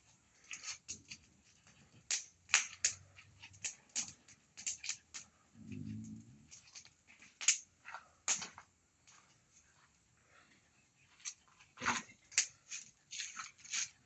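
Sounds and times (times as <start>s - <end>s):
bonfire crackling and popping: 0.0s - 9.3s, 11.2s - 14.0s.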